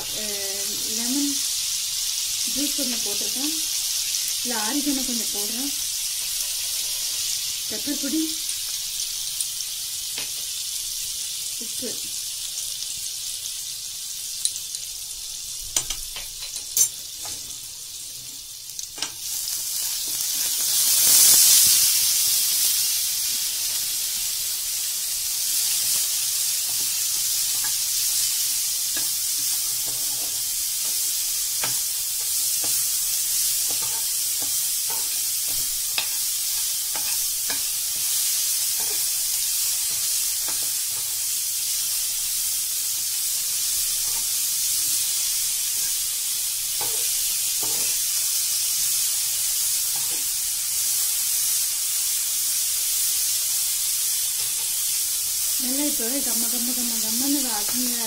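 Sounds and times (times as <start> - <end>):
corn frying sizzle: 0.0 - 58.0
spices sizzling in oil: 0.0 - 58.0.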